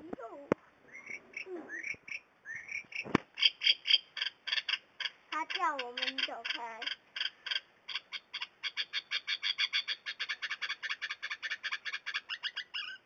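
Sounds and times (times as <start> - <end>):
small bird chattering call: 0.9 - 13.0.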